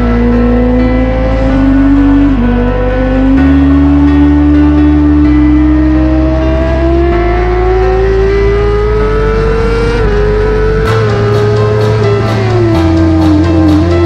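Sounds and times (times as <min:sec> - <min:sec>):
background music with bass: 0:00.0 - 0:14.0
motorcycle engine at full throttle: 0:00.0 - 0:14.0.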